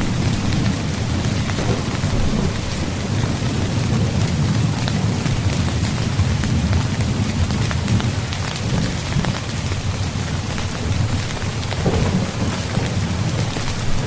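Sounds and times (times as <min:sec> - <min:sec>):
rain on tent fabric: 0:00.0 - 0:14.0.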